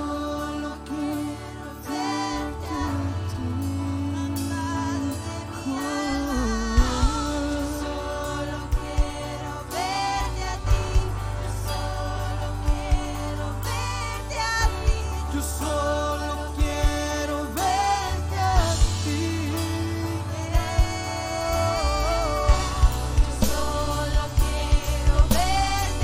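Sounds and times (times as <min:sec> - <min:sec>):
bass: 0:00.0 - 0:26.0
keyboard chords: 0:00.0 - 0:26.0
worship singing: 0:00.0 - 0:26.0.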